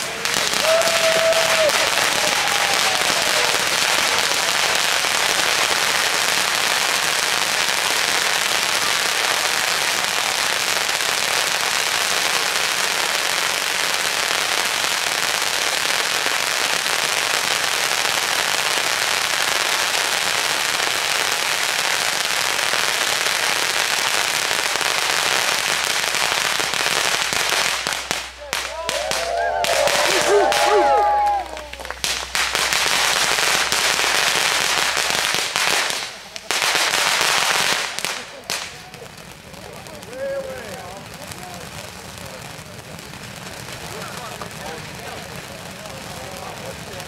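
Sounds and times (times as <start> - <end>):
firecrackers crackling: 0.0 - 47.0.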